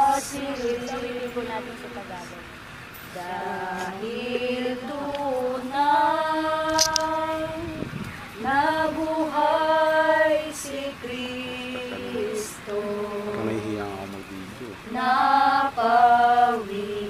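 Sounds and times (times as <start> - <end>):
woman singing a slow hymn: 0.0 - 2.5, 3.1 - 13.6, 14.8 - 17.0.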